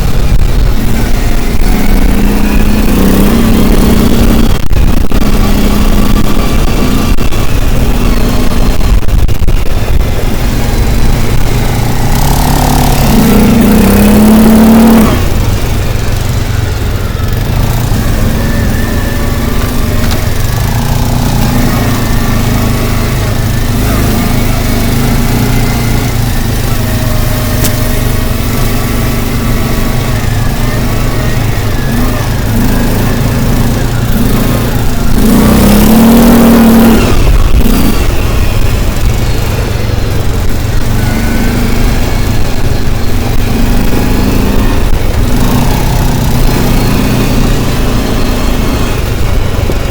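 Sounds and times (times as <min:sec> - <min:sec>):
road noise: 0:00.0 - 0:49.9
vehicle engine revving: 0:00.0 - 0:49.9.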